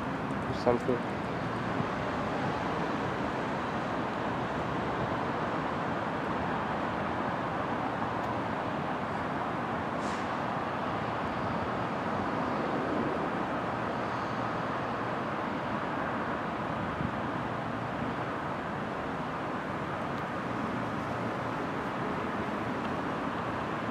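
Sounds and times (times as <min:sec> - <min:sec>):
distant traffic hum: 0:00.0 - 0:23.9.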